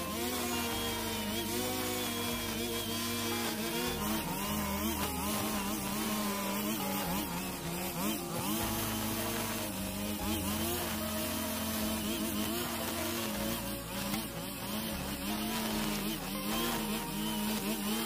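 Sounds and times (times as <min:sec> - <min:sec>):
brush cutter engine running: 0:00.0 - 0:18.0.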